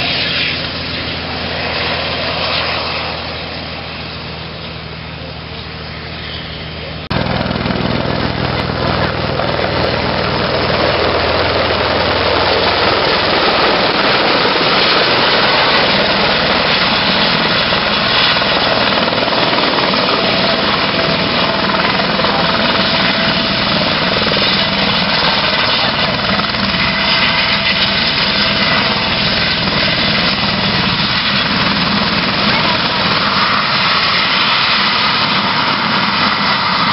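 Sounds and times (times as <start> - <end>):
helicopter rotor and turbine noise: 0.0 - 36.9.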